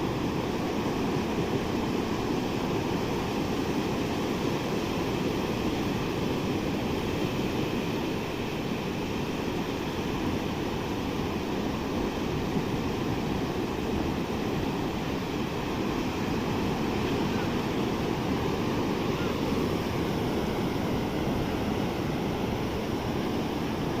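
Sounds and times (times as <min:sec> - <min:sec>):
sea surf washing onto beach: 0:00.0 - 0:24.0.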